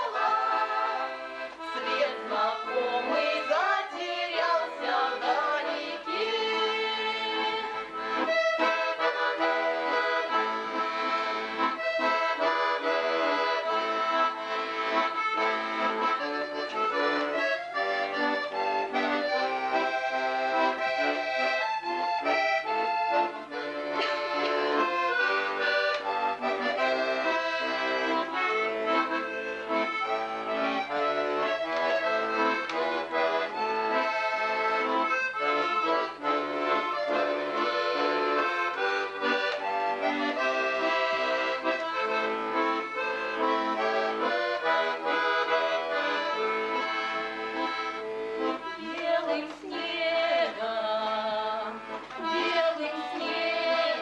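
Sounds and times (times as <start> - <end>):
accordion playing: 0.0 - 54.0.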